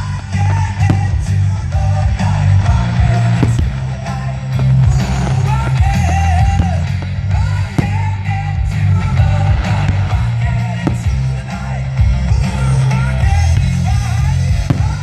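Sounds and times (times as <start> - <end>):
heavy bass beat: 0.0 - 15.0
person singing: 0.0 - 15.0.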